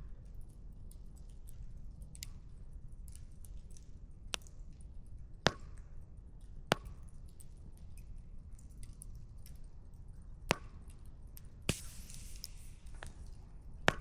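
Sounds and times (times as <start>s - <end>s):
firewood crackling and popping: 1.4s - 14.0s.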